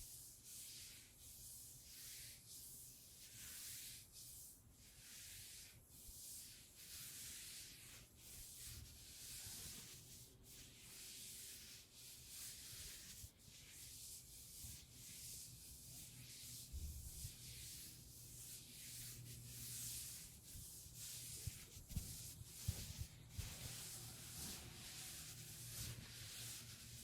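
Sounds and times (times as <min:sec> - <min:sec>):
soft hissy brushing strokes: 0:00.0 - 0:27.0.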